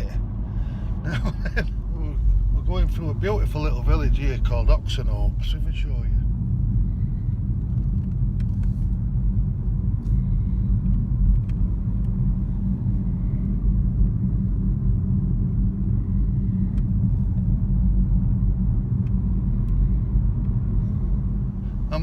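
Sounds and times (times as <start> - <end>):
car interior road and engine rumble: 0.0 - 22.0.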